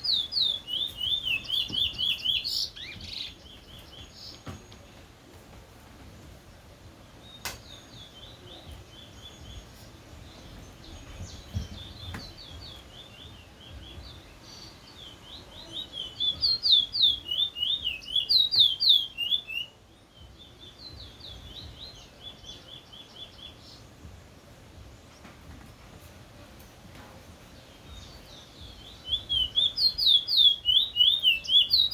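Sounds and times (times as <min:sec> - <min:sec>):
small bird singing: 0:00.0 - 0:05.2, 0:07.1 - 0:25.4, 0:27.4 - 0:31.9.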